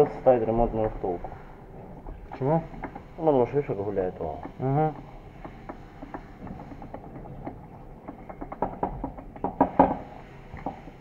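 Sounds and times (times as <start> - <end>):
metallic clicks and knocks of shaft: 2.0 - 11.0.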